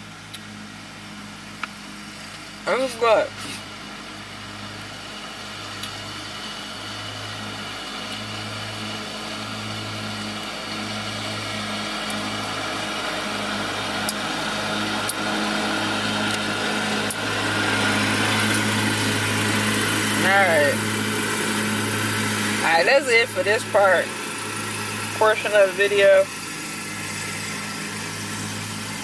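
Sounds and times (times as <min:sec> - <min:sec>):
truck engine idling: 0:03.9 - 0:29.0.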